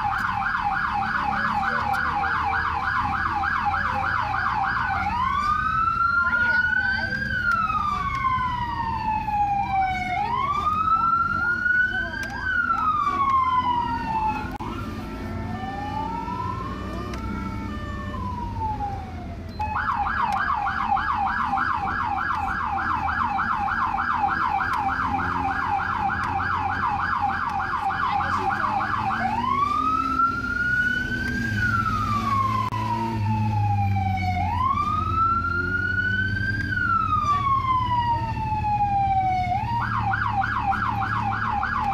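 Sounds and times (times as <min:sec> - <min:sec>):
police siren wailing and yelping: 0:00.0 - 0:41.9.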